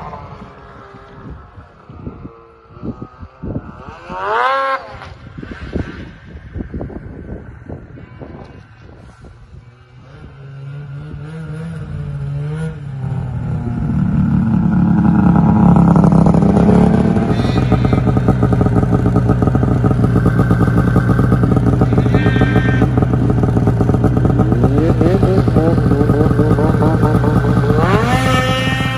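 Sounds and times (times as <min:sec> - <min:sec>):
snowmobile engine revving: 0:00.0 - 0:06.3, 0:07.5 - 0:28.9.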